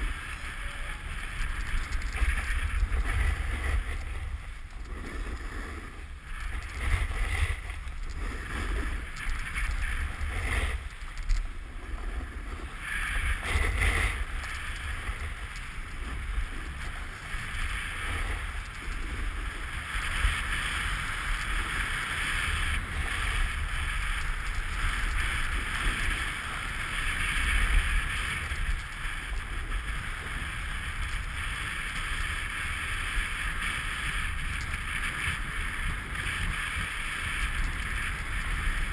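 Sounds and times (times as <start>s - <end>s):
snowboard scraping over snow: 0.0s - 38.9s
wind buffeting microphone: 0.0s - 38.9s.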